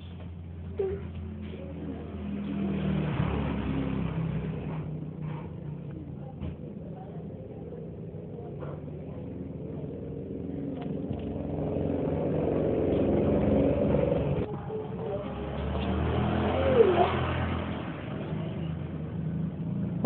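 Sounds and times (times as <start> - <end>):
engine-like hum: 0.0 - 20.0.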